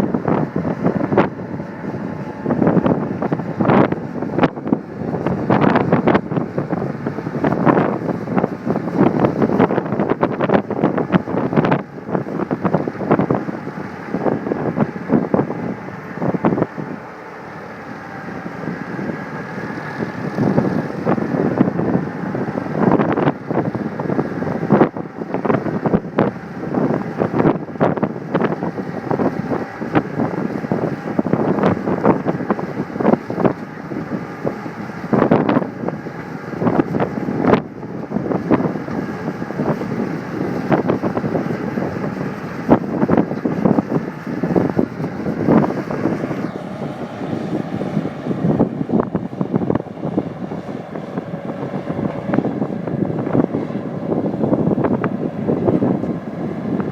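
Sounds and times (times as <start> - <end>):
skid steer machine running: 0.0 - 56.9
wind buffeting microphone: 0.0 - 56.9.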